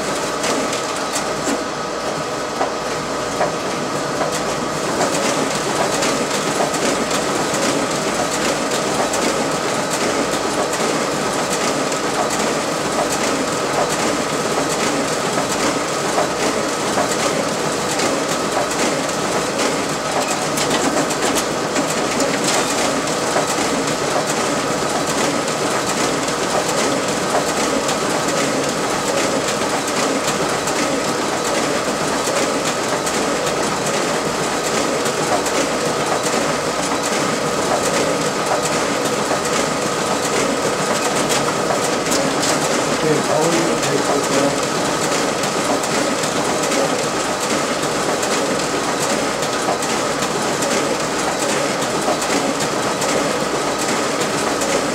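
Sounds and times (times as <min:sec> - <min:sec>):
printer whirring and clicking: 0:00.0 - 0:54.9.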